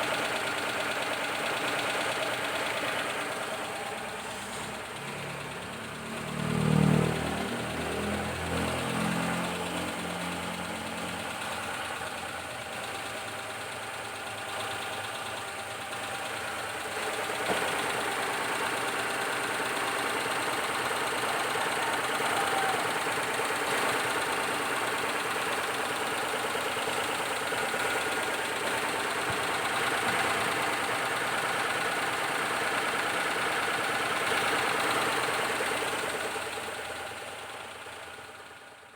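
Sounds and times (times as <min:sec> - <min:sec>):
three-cylinder engine running: 0:00.0 - 0:38.9.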